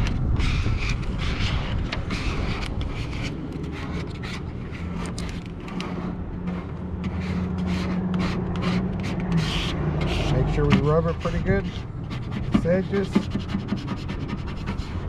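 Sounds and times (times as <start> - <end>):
card scraping over vinyl: 0.0 - 14.8.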